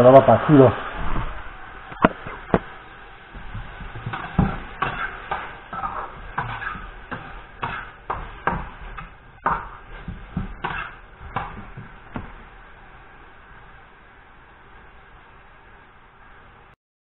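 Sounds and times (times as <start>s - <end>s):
potatoes deep-frying hiss: 0.0s - 16.8s.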